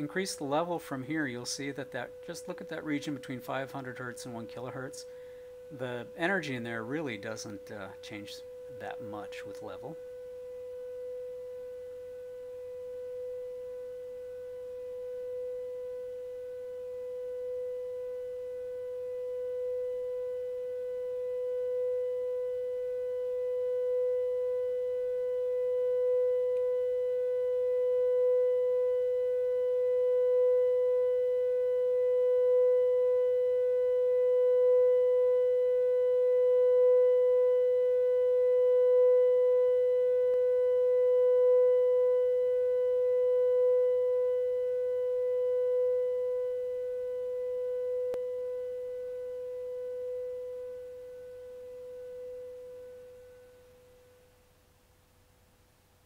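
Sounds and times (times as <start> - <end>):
sine test tone: 0.0 - 56.0.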